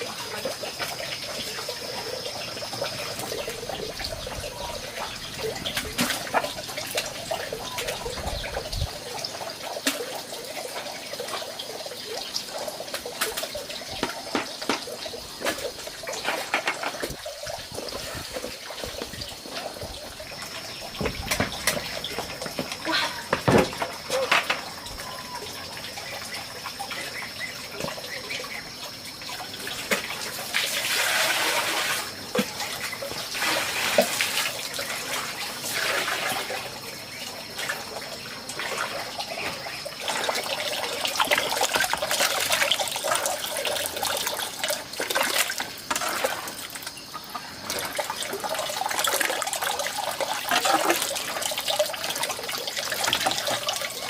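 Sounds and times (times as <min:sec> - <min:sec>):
water splashing and running: 0:00.0 - 0:54.0.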